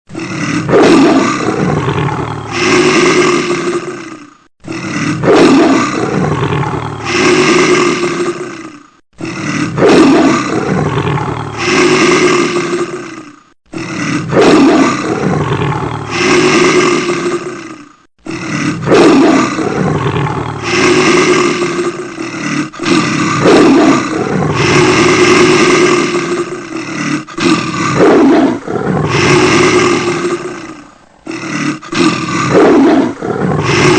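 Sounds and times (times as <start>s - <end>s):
animal roar: 0.1s - 33.9s.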